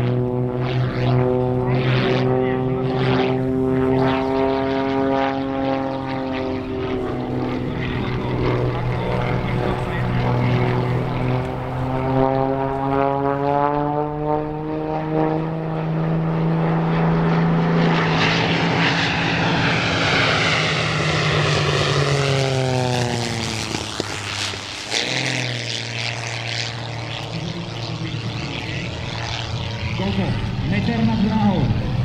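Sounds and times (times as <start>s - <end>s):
propeller plane engine passing: 0.0s - 32.0s.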